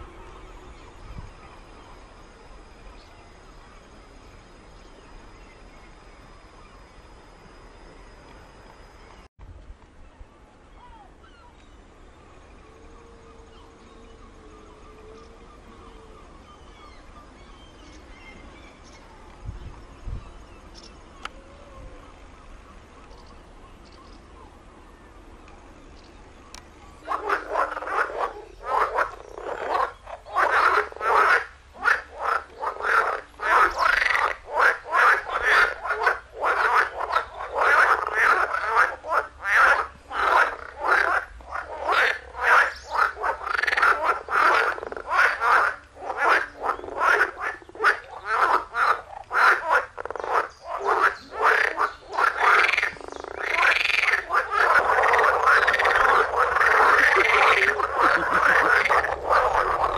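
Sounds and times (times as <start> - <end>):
frogs croaking in chorus: 11.2 - 59.9.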